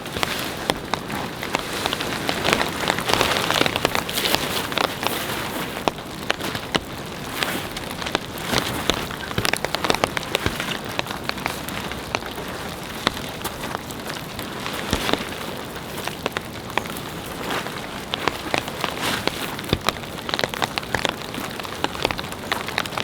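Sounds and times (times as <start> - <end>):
raindrops tapping a hard surface: 0.0 - 23.0.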